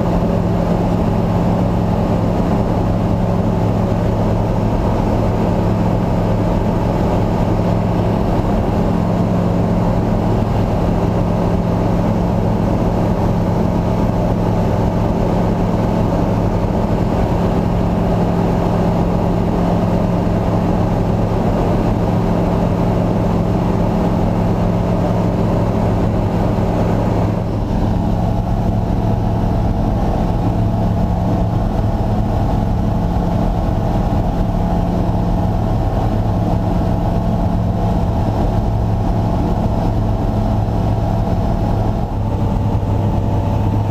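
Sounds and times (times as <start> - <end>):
light aircraft engine droning: 0.0 - 43.9.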